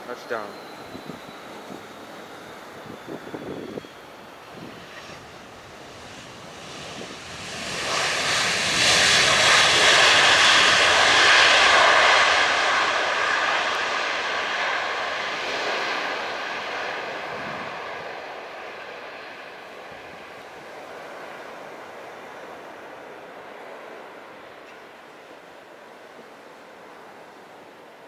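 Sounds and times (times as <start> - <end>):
jet engine rush: 0.0 - 27.8
engine whine: 0.0 - 28.0.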